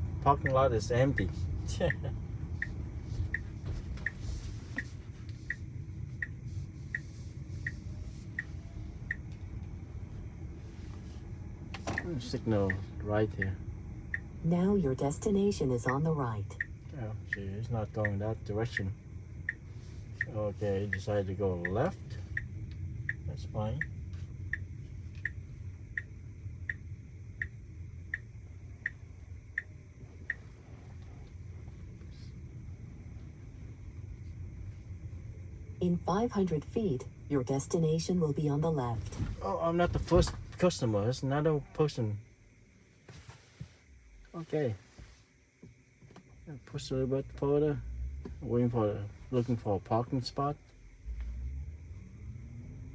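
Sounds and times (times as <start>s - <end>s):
turn signal ticking: 0.0s - 38.9s, 45.7s - 52.9s
car cabin hum: 0.0s - 52.9s
low road rumble: 0.0s - 52.9s.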